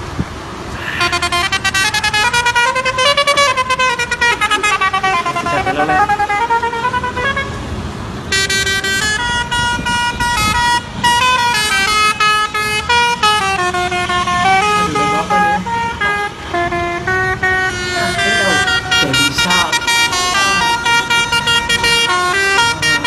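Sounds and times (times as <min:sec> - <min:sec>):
passing traffic rumble: 0:00.0 - 0:23.0
truck horn playing stepped notes: 0:01.0 - 0:07.7, 0:08.3 - 0:23.0.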